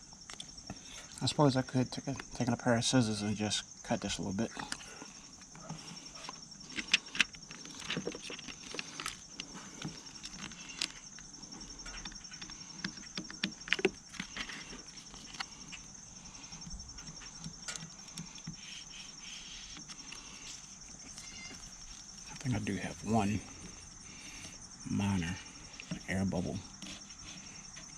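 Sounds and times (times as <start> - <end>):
pulsing high insect trill: 0.0 - 27.9.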